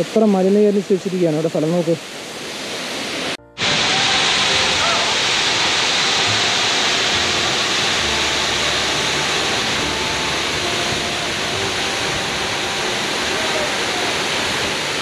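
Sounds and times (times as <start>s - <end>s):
waterfall rushing: 0.9s - 15.0s.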